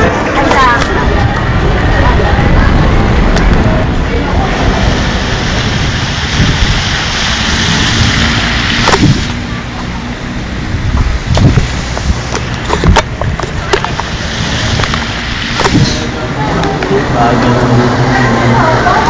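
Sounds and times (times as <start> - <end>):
loud rushing outdoor noise: 0.0 - 19.0.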